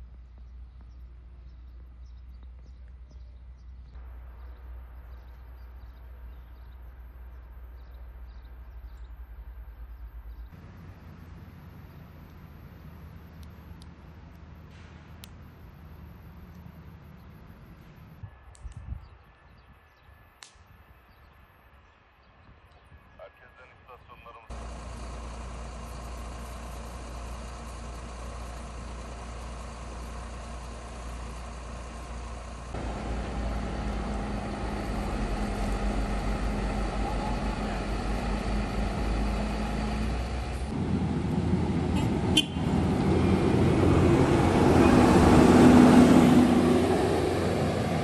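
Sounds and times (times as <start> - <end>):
diesel engines droning: 0.0 - 18.7, 23.2 - 48.0.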